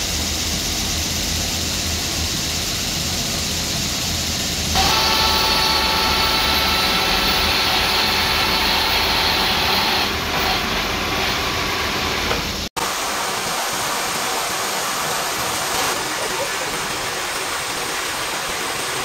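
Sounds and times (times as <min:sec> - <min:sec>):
milling machine cutting metal: 0:02.2 - 0:19.0.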